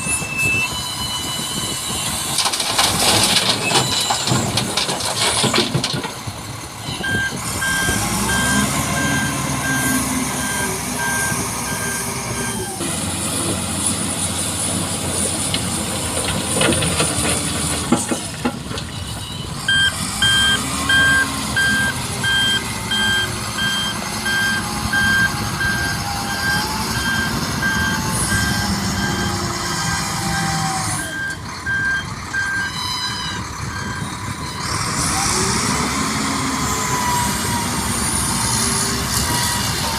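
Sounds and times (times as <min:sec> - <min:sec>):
truck reversing alarm beeping: 0:00.0 - 0:06.0, 0:06.8 - 0:12.8, 0:18.8 - 0:39.9
truck engine revving: 0:00.0 - 0:39.9.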